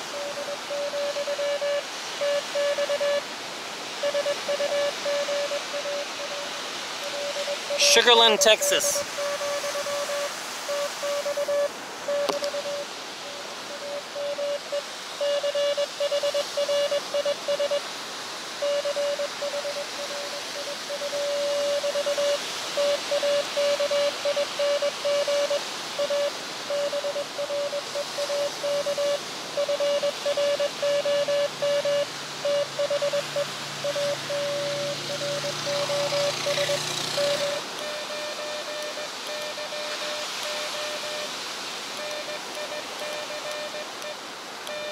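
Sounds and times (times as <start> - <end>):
morse code tone: 0.0 - 3.2, 4.0 - 17.9, 18.6 - 41.4, 42.0 - 44.9
radio band hiss: 0.0 - 44.9.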